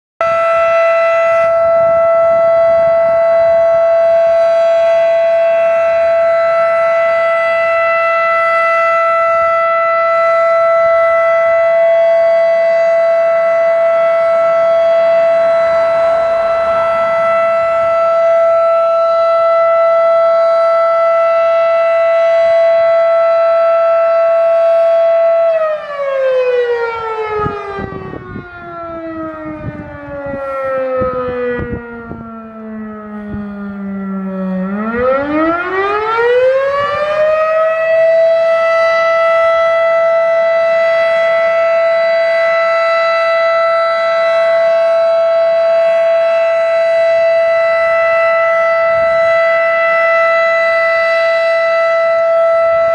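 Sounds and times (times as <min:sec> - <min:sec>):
mechanical siren winding down: 0:00.2 - 0:52.9.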